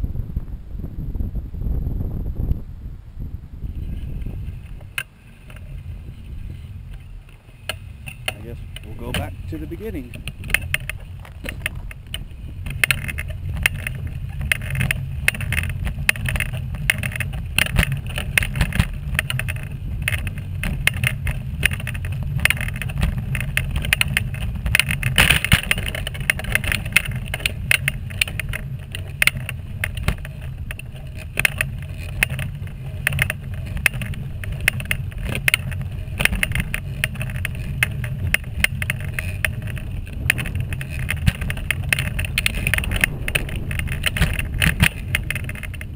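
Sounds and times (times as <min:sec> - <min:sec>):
wheelchair wheels rumbling: 0:03.6 - 0:45.9
clicks and rattles: 0:03.8 - 0:45.9.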